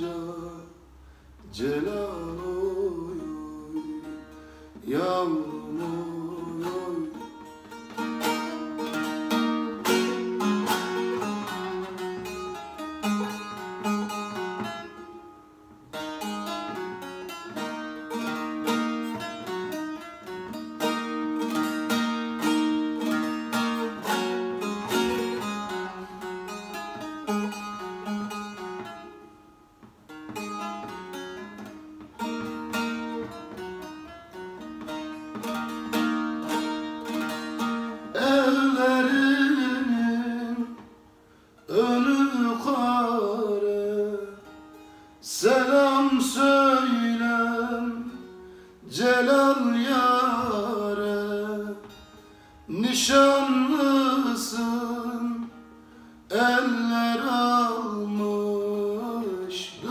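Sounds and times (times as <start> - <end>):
solo long-necked lute playing: 0.0 - 59.9.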